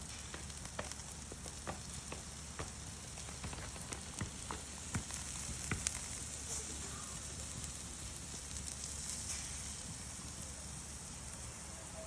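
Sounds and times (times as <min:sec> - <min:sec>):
cooking fire crackling and popping: 0:00.0 - 0:12.0.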